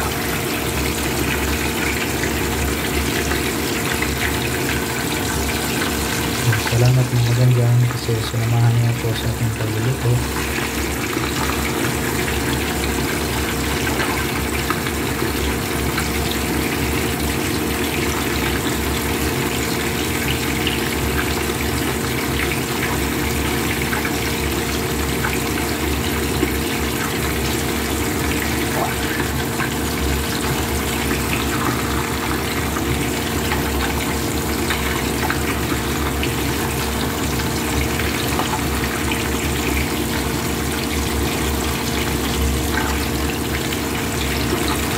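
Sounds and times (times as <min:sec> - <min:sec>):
oil sizzling with fish frying: 0:00.0 - 0:07.9, 0:09.9 - 0:44.9.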